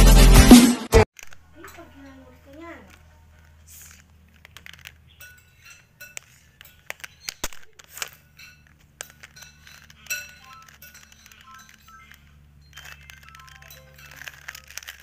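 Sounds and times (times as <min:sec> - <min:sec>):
plastic puzzle cubes clicking: 0:01.2 - 0:01.5, 0:02.5 - 0:15.0.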